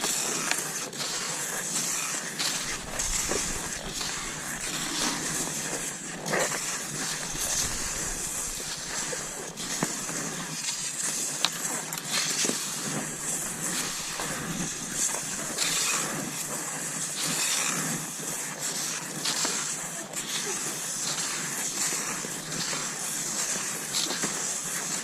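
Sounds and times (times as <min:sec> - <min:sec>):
skis sliding over snow: 0:00.0 - 0:25.0.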